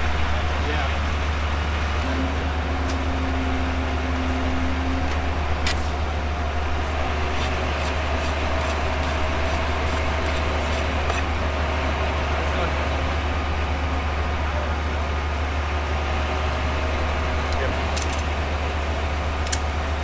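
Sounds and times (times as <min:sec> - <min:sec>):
diesel engine rumble: 0:00.0 - 0:20.0.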